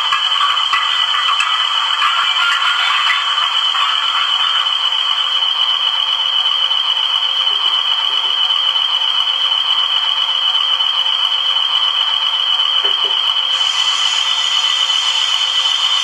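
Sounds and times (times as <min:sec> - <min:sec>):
tinny diesel locomotive sound: 0:00.0 - 0:16.0.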